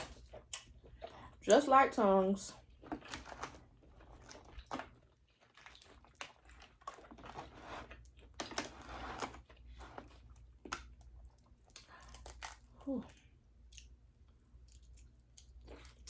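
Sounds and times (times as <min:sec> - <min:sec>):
wet chewing: 0:02.5 - 0:16.0.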